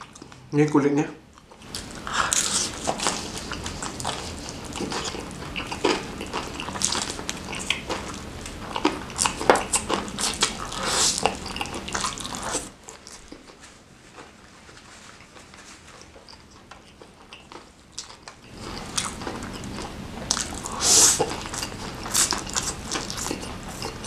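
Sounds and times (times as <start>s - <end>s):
wet chewing and smacking: 1.3s - 24.0s.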